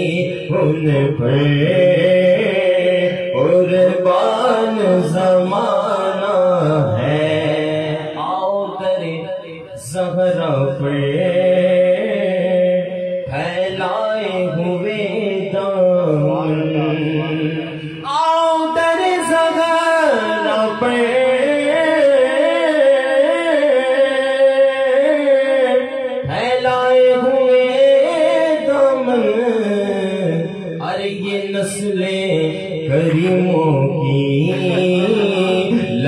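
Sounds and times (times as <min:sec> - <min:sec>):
man singing unaccompanied: 0:00.0 - 0:36.0.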